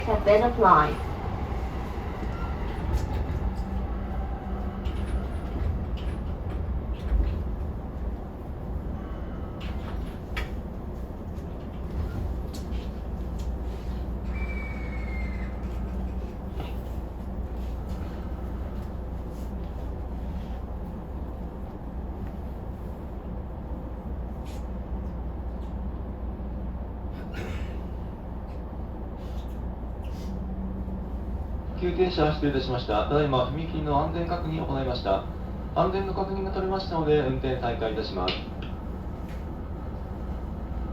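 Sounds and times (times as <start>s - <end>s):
train car low rumble: 0.0s - 40.9s.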